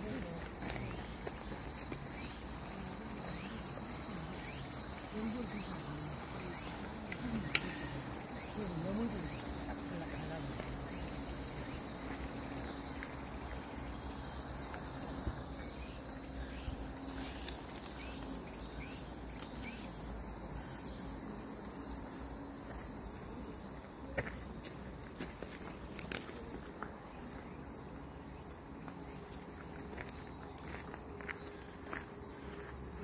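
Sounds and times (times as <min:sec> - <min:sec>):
high insect trill: 0:00.0 - 0:33.0
insect chorus trilling: 0:00.0 - 0:33.0.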